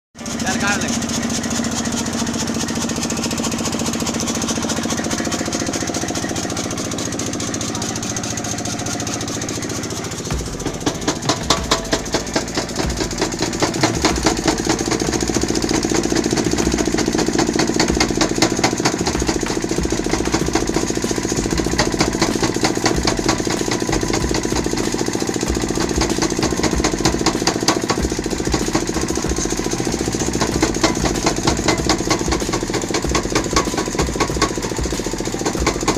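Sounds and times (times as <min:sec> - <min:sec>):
power hammer motor humming: 0:00.2 - 0:35.9
power hammer striking hot steel: 0:00.2 - 0:35.9.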